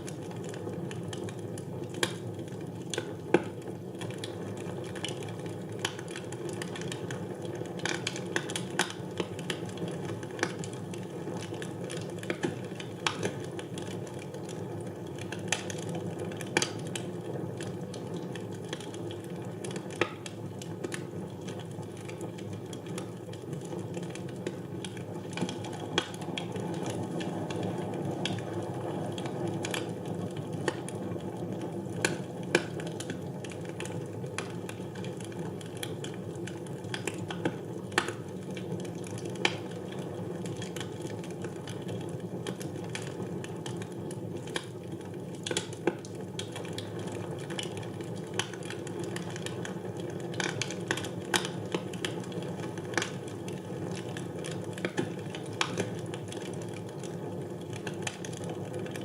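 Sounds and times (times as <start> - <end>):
fire crackles and pops: 0.0 - 59.0.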